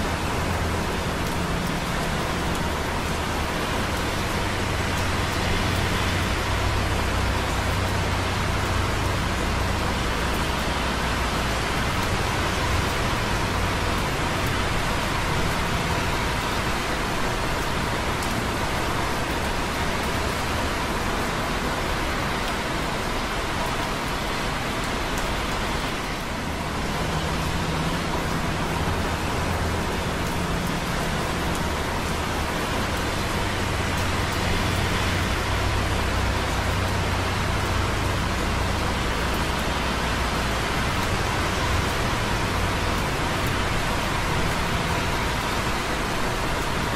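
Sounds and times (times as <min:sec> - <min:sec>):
rain pattering on concrete: 0:00.0 - 0:46.9
traffic on wet roads: 0:00.0 - 0:46.9.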